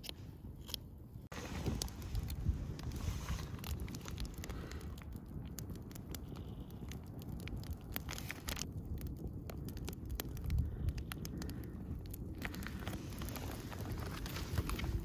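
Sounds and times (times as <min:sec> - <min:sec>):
campfire crackling and popping: 0:00.0 - 0:15.0
wind rumble on microphone: 0:01.2 - 0:15.0.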